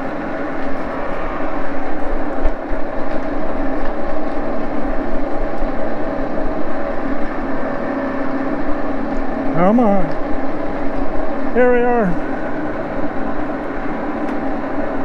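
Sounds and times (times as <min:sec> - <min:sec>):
lathe humming and whining: 0:00.0 - 0:15.0.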